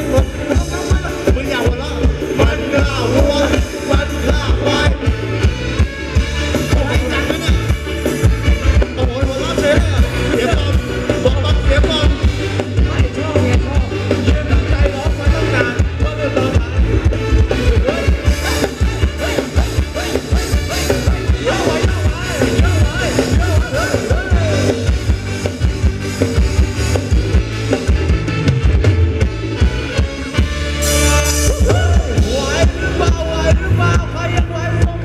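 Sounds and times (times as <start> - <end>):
live band dance music: 0.0 - 35.0.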